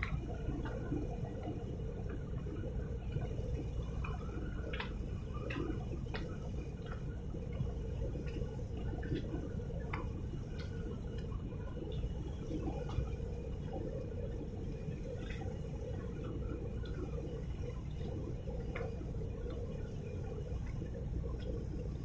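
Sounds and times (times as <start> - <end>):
small splashes and drips: 0.0 - 22.0
water lapping against shore: 0.0 - 22.0.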